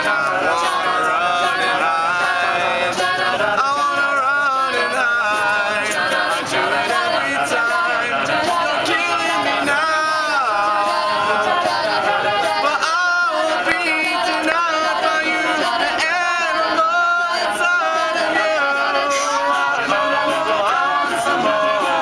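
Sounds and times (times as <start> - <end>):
a cappella group singing: 0.0 - 22.0
high ticking beat: 0.0 - 22.0.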